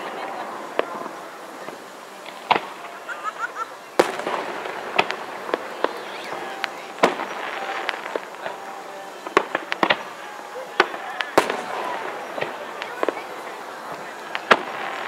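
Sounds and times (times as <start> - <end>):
fireworks crackling: 0.0 - 15.0
fireworks shells bursting: 0.0 - 15.0.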